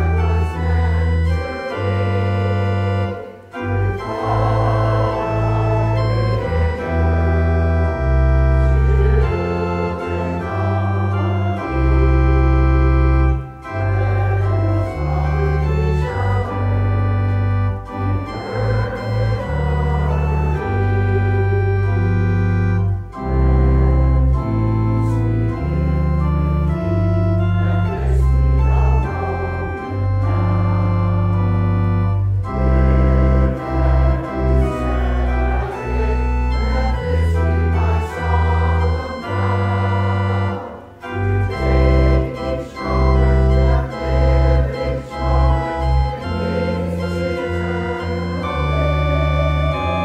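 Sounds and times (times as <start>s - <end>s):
organ playing chords: 0.0s - 50.0s.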